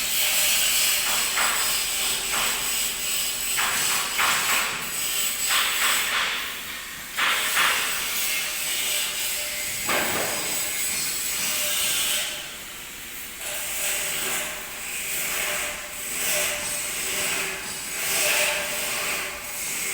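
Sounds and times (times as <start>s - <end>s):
arc welding crackling hiss: 0.0s - 19.9s.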